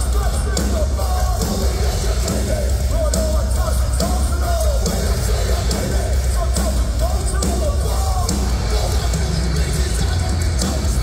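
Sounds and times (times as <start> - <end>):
heavy guitars and bass: 0.0 - 11.0
pounding drums: 0.0 - 11.0.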